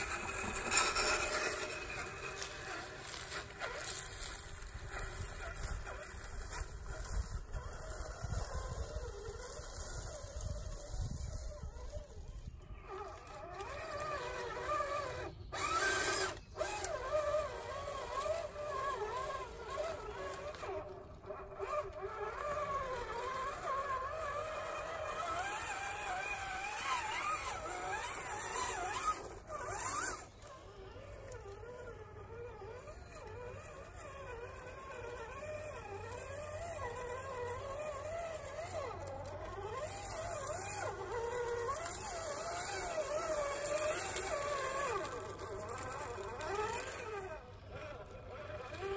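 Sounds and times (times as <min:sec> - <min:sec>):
electric motor whining: 0:00.0 - 0:48.9.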